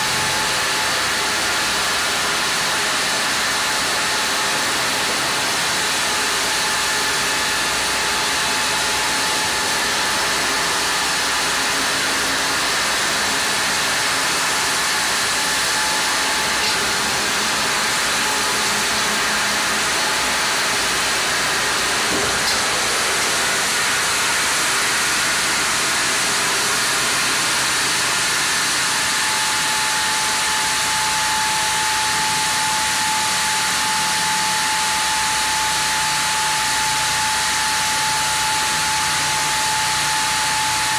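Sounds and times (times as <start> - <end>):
high saw whine: 0.0 - 40.9
sawmill saw hissing: 0.0 - 40.9.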